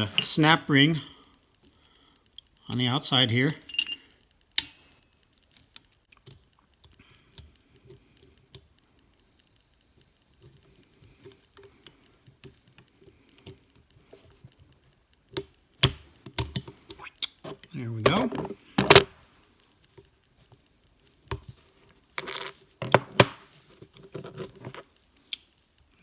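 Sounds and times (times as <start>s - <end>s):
small metal clicks and taps: 3.6s - 26.0s.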